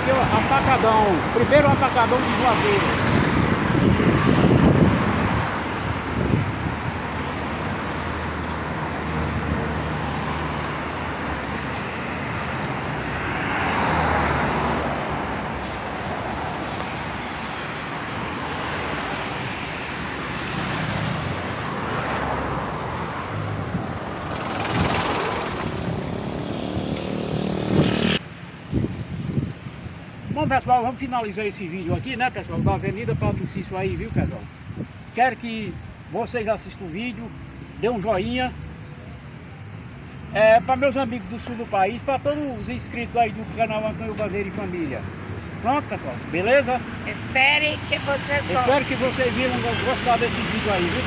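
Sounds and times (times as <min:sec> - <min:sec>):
cars driving past: 0:00.0 - 0:33.0, 0:35.7 - 0:51.0.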